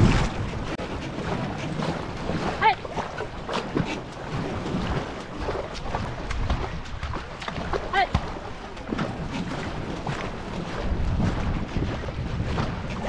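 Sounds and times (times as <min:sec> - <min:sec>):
paddles splashing through water: 0:00.0 - 0:13.0
water rushing along hull: 0:00.0 - 0:13.0
wind buffeting microphone: 0:00.0 - 0:13.0.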